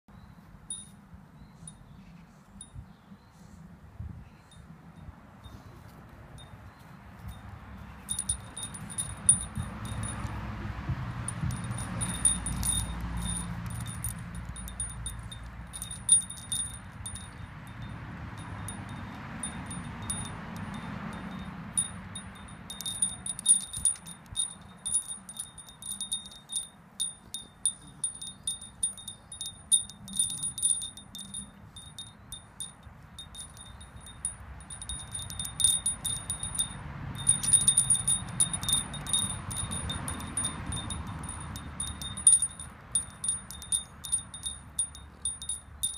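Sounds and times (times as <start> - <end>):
metal wind chime clinking: 0.7 - 1.0, 6.3 - 45.9.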